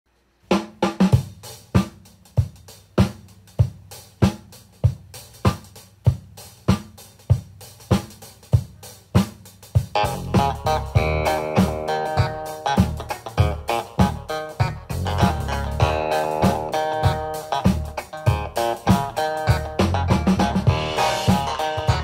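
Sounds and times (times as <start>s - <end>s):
drum kit playing steady beat: 0.4s - 22.0s.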